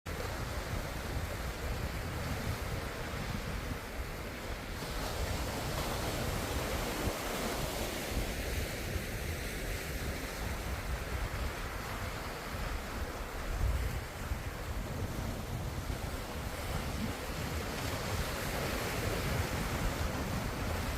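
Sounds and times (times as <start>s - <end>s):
ocean waves breaking: 0.1s - 20.9s.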